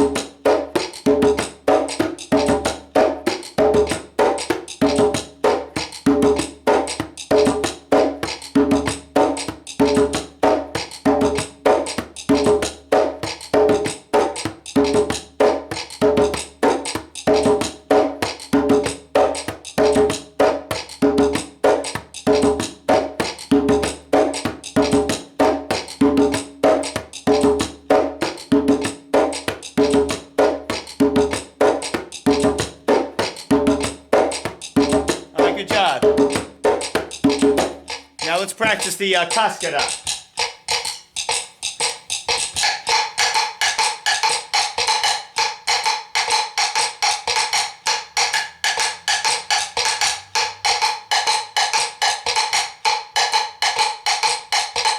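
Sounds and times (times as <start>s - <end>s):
clicking percussion pattern: 0.0s - 54.9s
djembe salsa groove: 0.0s - 54.9s.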